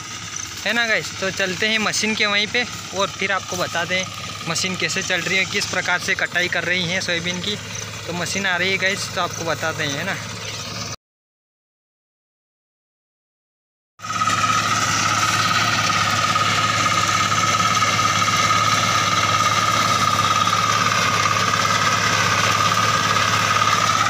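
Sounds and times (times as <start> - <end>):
reaper engine running: 0.0 - 11.0, 14.0 - 24.0.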